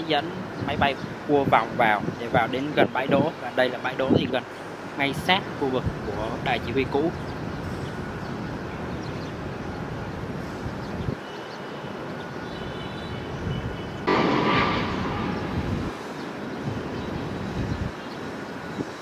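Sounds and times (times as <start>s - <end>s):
airport and traffic rumble: 0.0s - 19.0s.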